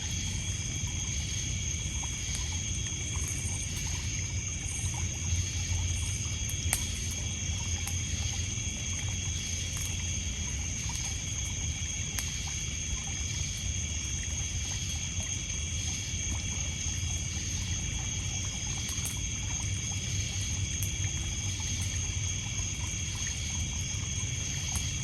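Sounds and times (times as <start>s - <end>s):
campfire crackling: 0.0s - 25.0s
insects chirring: 0.0s - 25.0s
water lapping on pebbles: 0.1s - 25.0s.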